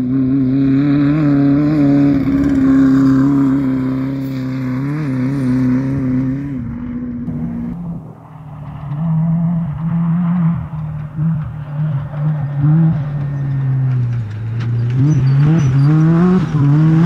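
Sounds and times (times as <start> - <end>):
race buggy engine revving: 0.0 - 17.0
second race vehicle engine: 0.0 - 17.0.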